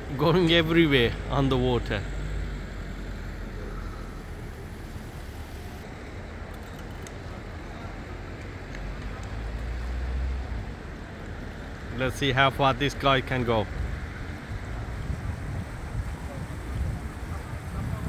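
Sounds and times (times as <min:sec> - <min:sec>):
low engine rumble: 0:00.0 - 0:18.0
traffic hum: 0:00.0 - 0:18.0
vehicle approaching: 0:00.0 - 0:18.0.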